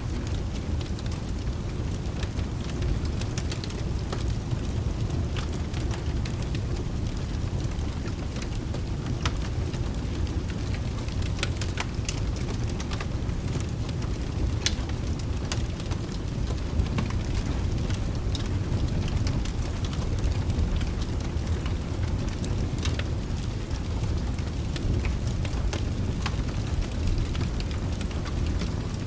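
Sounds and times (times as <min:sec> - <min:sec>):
rain hiss: 0:00.0 - 0:29.0
wood fire crackling: 0:00.0 - 0:29.0.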